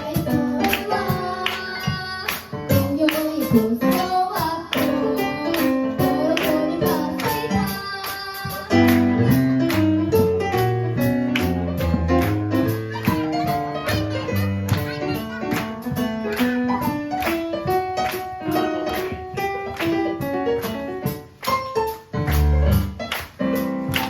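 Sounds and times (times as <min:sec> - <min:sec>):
live band with drums and keyboard: 0:00.0 - 0:24.0.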